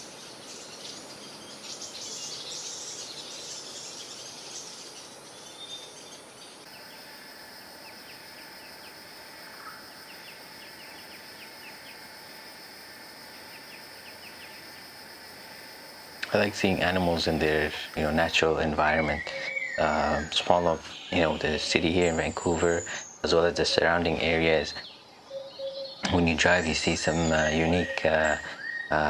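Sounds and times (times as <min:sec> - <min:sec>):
high insect drone: 0:00.0 - 0:29.0
small birds twittering: 0:00.0 - 0:29.0.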